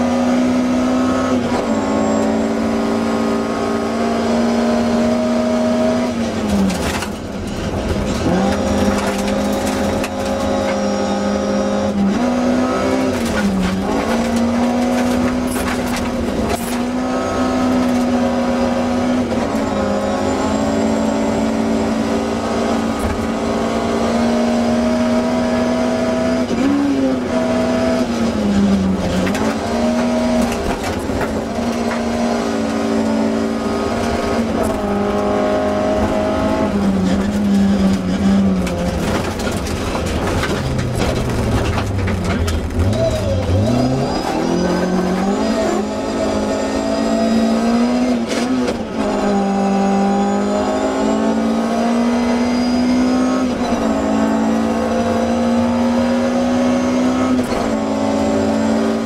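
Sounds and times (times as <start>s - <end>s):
gravel and tyre noise: 0.0s - 59.0s
rally car engine revving: 0.0s - 59.0s.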